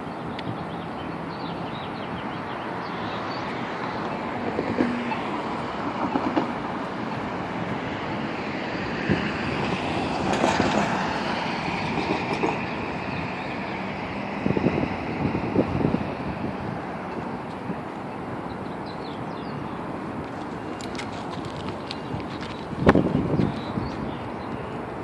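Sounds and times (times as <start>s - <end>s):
train rumbling on a bridge: 0.0s - 25.0s.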